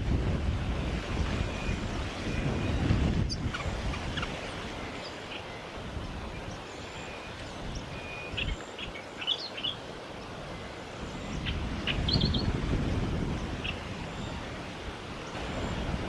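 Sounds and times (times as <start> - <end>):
wind rumble on microphone: 0.0 - 9.0, 9.8 - 16.0.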